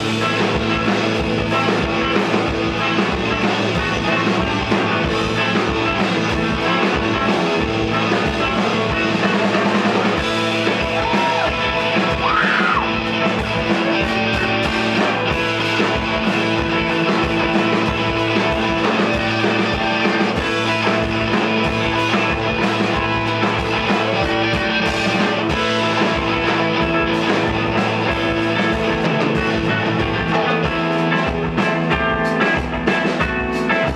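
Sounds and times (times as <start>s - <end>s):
live rock band playing: 0.0s - 33.9s.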